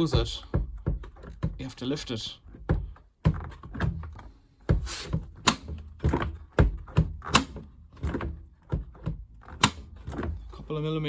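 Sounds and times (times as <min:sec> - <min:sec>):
washing machine door knocking: 0:00.0 - 0:04.0, 0:04.7 - 0:10.3.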